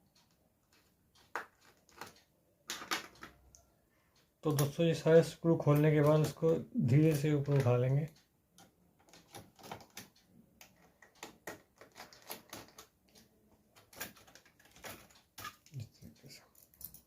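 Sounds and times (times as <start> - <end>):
small clicks and taps of metal parts: 0.0 - 17.0.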